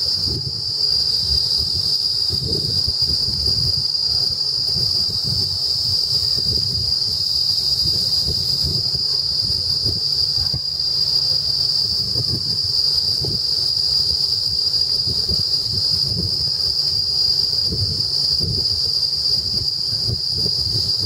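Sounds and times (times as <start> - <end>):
cicada buzzing: 0.0 - 21.0
wind rumbling on microphone: 0.0 - 21.0.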